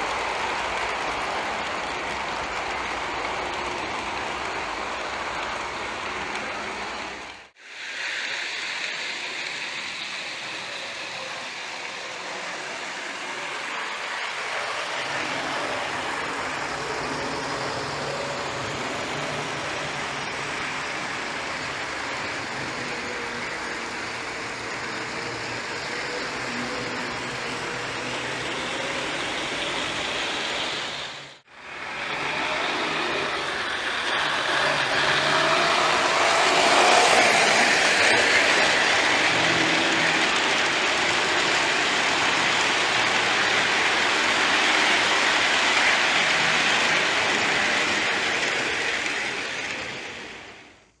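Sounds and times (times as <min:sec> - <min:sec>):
model train wheels rumbling: 0:00.0 - 0:51.0.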